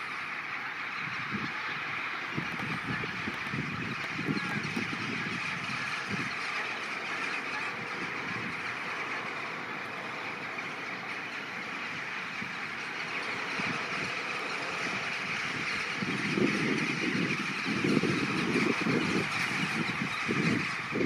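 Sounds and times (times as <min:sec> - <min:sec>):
flock of crows cawing: 0:00.0 - 0:21.0.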